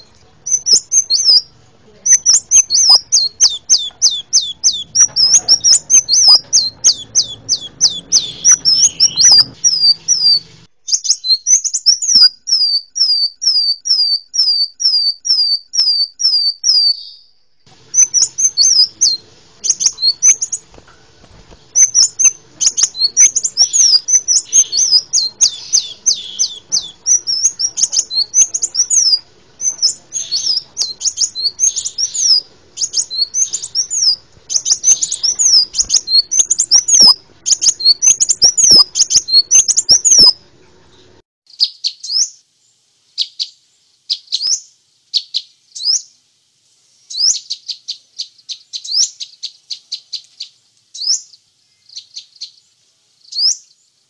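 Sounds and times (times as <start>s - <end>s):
high thin bird chirps: 0.0s - 42.4s, 43.2s - 46.2s, 47.0s - 53.8s
faint background noise: 0.0s - 54.0s.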